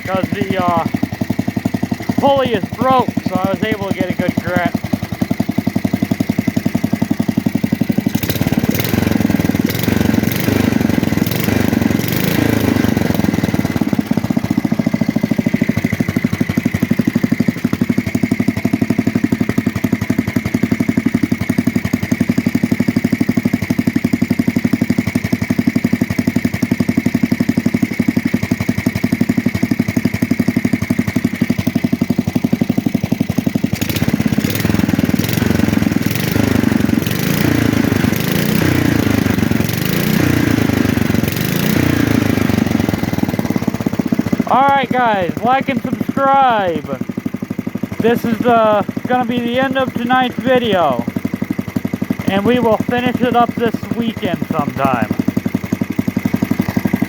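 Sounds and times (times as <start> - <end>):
small engine running steadily: 0.0 - 57.0.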